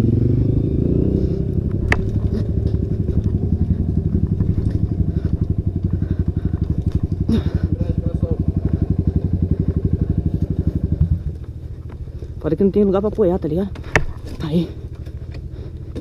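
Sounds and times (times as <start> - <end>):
motorbike engine running low revs: 0.0 - 16.0.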